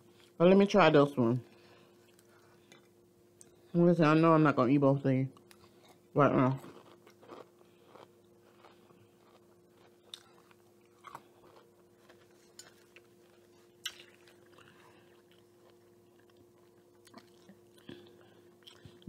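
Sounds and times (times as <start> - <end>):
faint steady hum: 0.0 - 19.0
chewing and crunching food: 1.4 - 3.7, 5.3 - 19.0.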